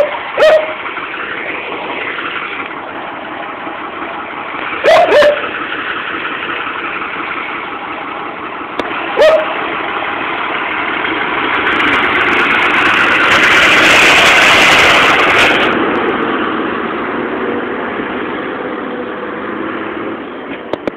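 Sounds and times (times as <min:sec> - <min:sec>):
tractor diesel engine passing: 0:00.0 - 0:20.9.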